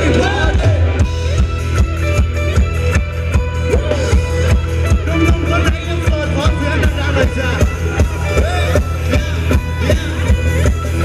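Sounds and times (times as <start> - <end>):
live dance band music: 0.0 - 11.0.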